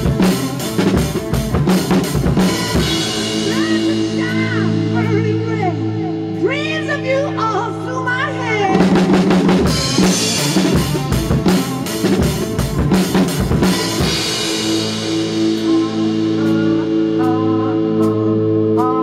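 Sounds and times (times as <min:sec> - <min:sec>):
drum kit playing: 0:00.0 - 0:19.0
guitar holding notes: 0:00.0 - 0:19.0
recorded rock song: 0:00.0 - 0:19.0.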